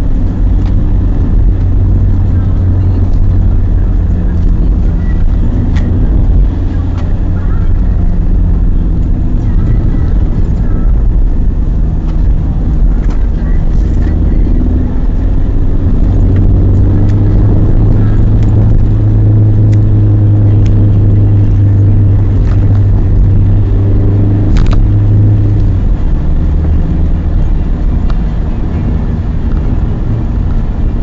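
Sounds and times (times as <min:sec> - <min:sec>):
car engine drone: 0:00.0 - 0:31.0.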